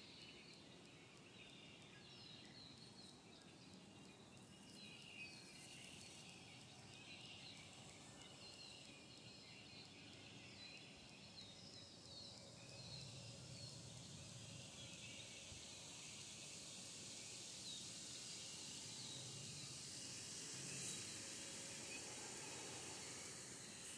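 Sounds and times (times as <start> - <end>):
steady high hiss: 0.0 - 23.9
small bird chirping: 0.1 - 23.9.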